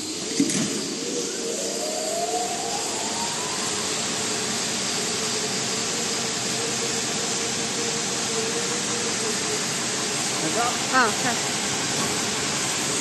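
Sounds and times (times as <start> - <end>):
motor spinning up with whine: 0.0 - 13.0
belt sander hissing and humming: 0.9 - 13.0.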